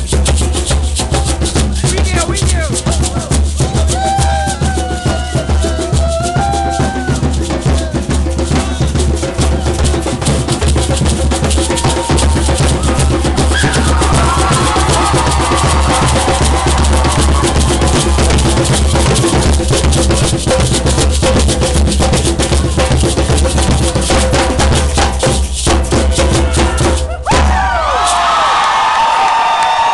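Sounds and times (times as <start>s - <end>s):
hand drums beaten fast: 0.0s - 28.2s.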